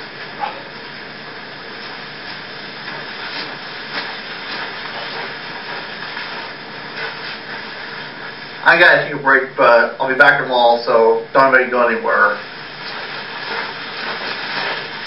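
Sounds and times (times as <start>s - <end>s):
videotape hiss: 0.0s - 15.0s.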